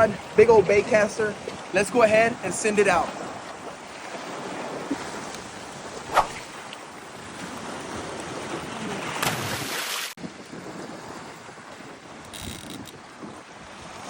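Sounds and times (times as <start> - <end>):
waves and wind rushing: 0.0 - 14.0.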